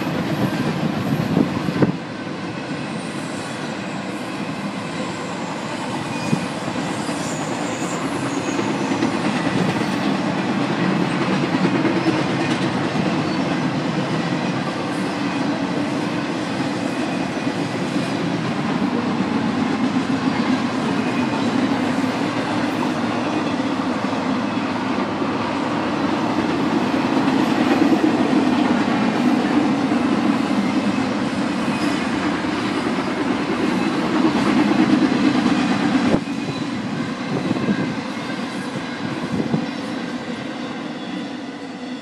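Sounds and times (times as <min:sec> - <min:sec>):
freight train wheels on rails: 0:00.0 - 0:42.0.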